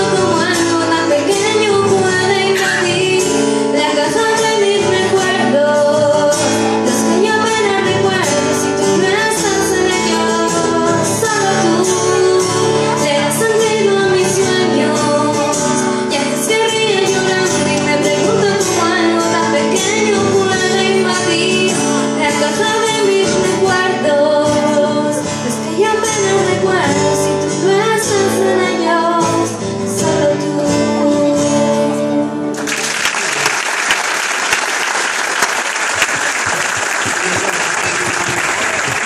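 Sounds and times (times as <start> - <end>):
woman singing slow song: 0.0 - 32.6
acoustic guitar: 0.0 - 39.0.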